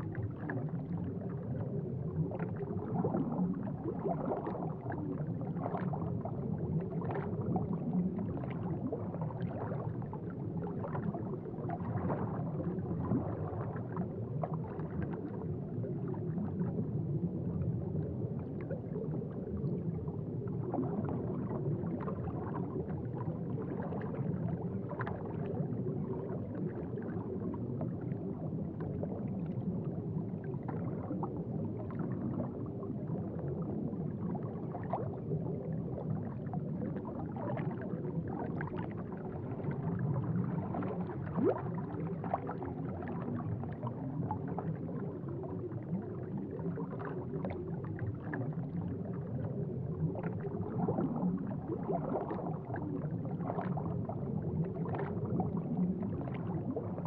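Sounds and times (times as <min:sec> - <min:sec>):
aquarium water bubbling: 0:00.0 - 0:57.0.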